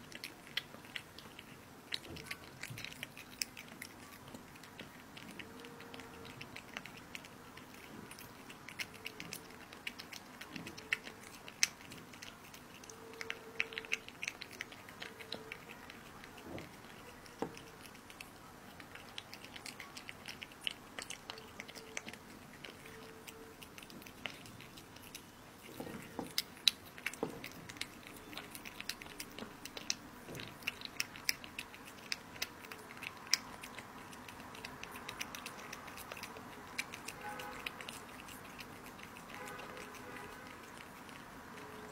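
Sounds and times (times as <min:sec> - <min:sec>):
cat chewing wetly: 0:00.0 - 0:41.9.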